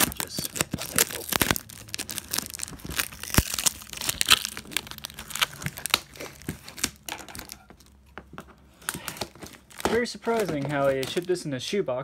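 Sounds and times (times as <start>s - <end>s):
packing tape and plastic wrap tearing: 0.0s - 8.0s, 8.8s - 11.6s.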